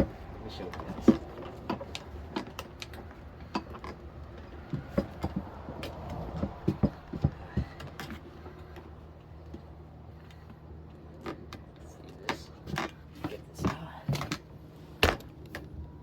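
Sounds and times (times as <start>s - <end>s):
tire iron clicking on rim: 0.0s - 13.0s.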